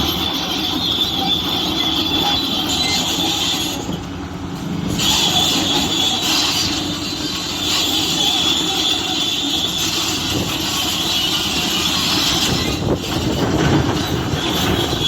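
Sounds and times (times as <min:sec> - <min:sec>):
high-pitched squeal: 0:00.0 - 0:04.1, 0:04.9 - 0:15.0
diesel machinery rumble: 0:00.0 - 0:15.0.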